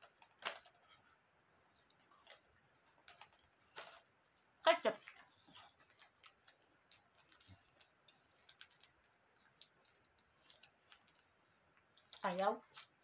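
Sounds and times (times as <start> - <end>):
plastic sachet crinkling: 0.0 - 1.1, 1.7 - 13.0.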